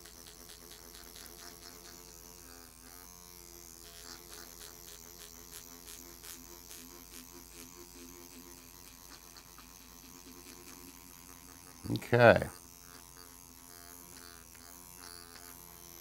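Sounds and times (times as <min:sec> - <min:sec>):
microneedling pen buzzing: 0:00.0 - 0:16.0.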